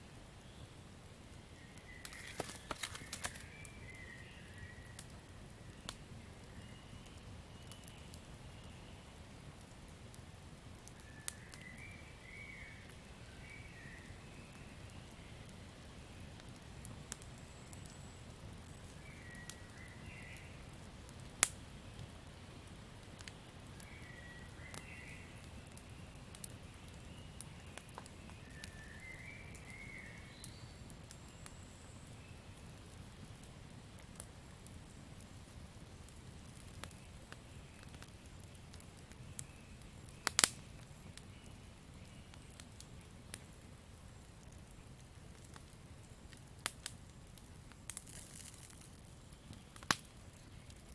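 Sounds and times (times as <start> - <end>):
campfire crackling and popping: 0.1 - 50.9.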